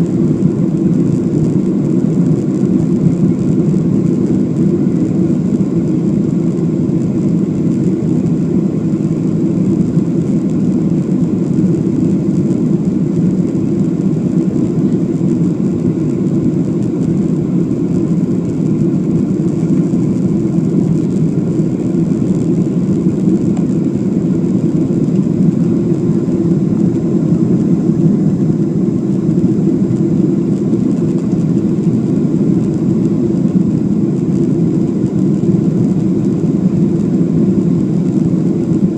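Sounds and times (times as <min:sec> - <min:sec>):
airliner cabin engine noise: 0:00.0 - 0:38.9.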